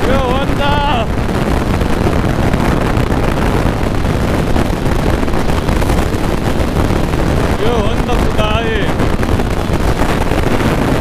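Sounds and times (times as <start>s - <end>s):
motorcycle running noise: 0.0s - 11.0s
wind buffeting microphone: 0.0s - 11.0s.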